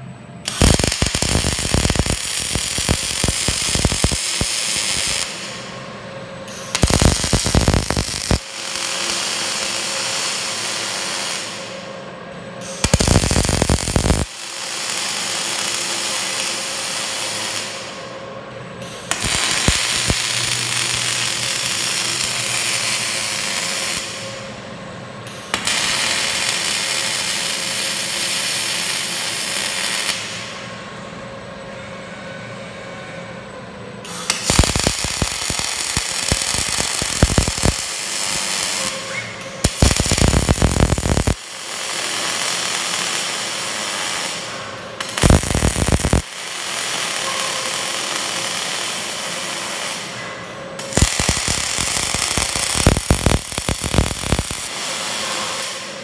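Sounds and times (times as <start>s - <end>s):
welding arc hissing and crackling: 0.5s - 5.7s, 6.5s - 11.8s, 12.6s - 18.1s, 18.8s - 24.4s, 25.3s - 30.5s, 34.1s - 50.2s, 50.8s - 56.0s.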